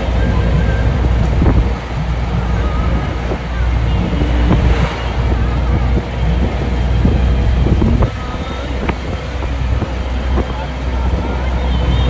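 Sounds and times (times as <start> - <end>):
road vehicle rumble: 0.0 - 12.0
wind buffeting microphone: 0.0 - 12.0.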